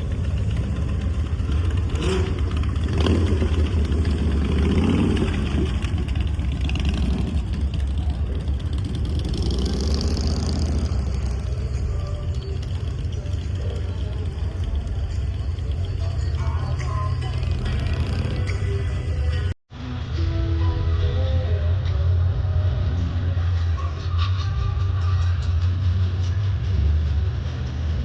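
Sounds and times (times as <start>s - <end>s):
vehicle engines running: 0.0s - 19.6s, 21.6s - 28.0s.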